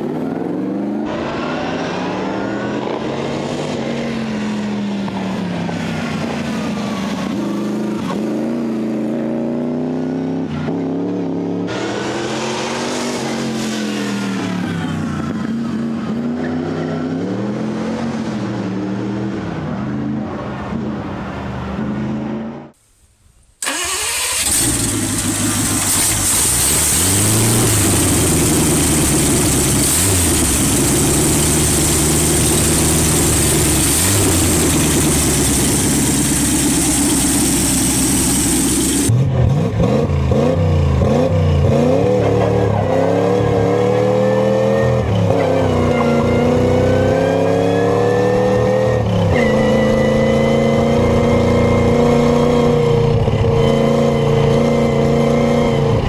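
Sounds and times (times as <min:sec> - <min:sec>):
car engine running and revving: 0:00.0 - 0:22.7, 0:23.6 - 0:56.0
racing engine: 0:00.0 - 0:22.7, 0:23.6 - 0:56.0.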